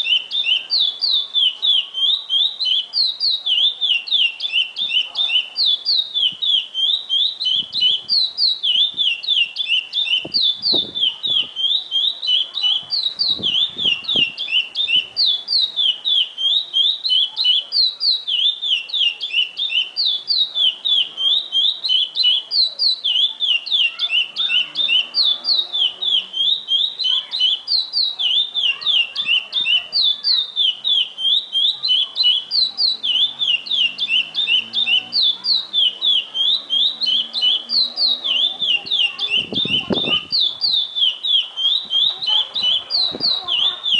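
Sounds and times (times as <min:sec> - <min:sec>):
finch singing whistled notes: 0:00.0 - 0:43.9.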